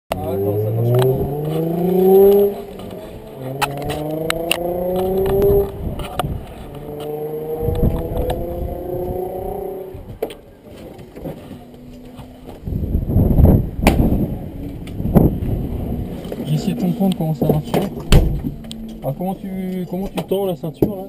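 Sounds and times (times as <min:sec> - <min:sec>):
car engine accelerating: 0:00.1 - 0:21.0.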